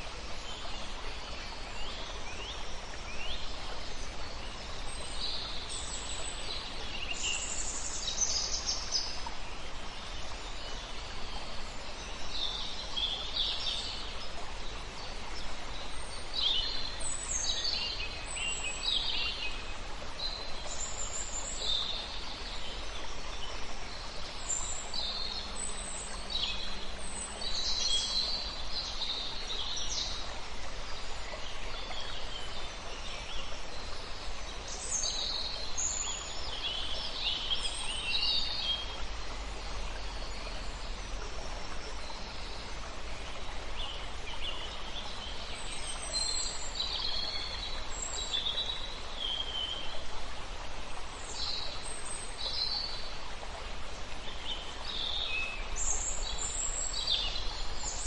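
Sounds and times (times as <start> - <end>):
river water running: 0.0 - 58.0
songbirds chirping: 0.0 - 58.0.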